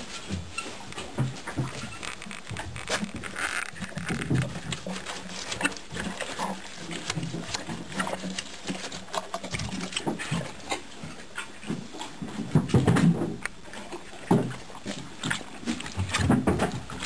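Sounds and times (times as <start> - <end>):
horse eating from feed pan: 0.0 - 17.0.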